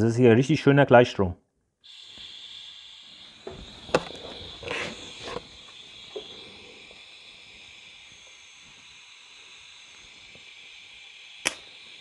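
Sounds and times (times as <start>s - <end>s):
gas hissing from torch: 1.8s - 12.0s.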